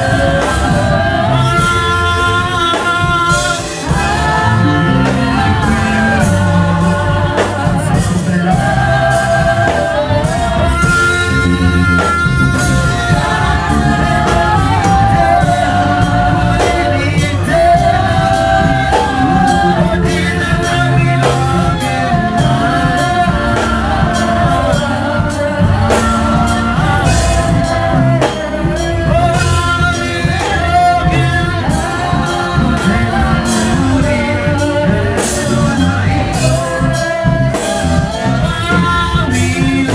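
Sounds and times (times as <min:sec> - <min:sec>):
band with guitar: 0:00.0 - 0:39.9
person singing: 0:00.0 - 0:39.9.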